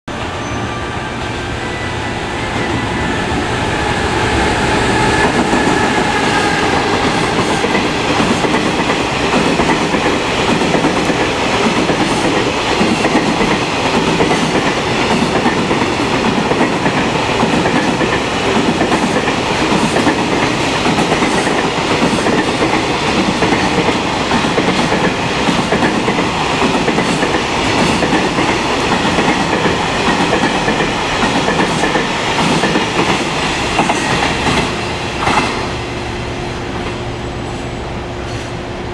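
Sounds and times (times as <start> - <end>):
freight train rolling past: 0.1 - 38.9.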